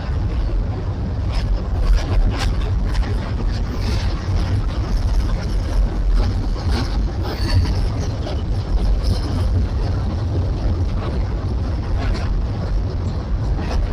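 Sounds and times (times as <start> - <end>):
train rumbling on bridge: 0.0 - 13.9.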